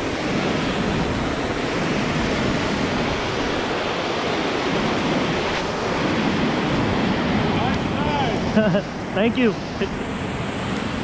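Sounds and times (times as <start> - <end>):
waterfall churning whitewater: 0.0 - 11.0.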